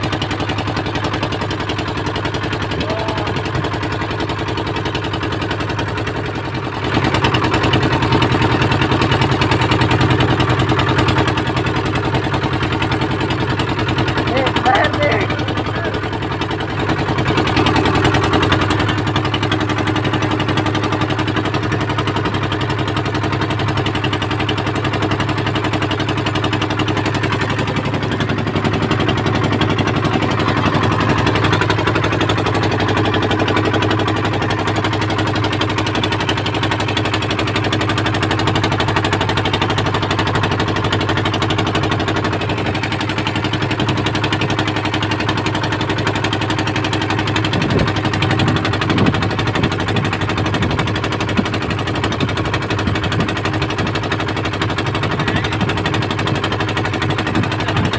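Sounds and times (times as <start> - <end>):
boat engine running: 0.0 - 57.9.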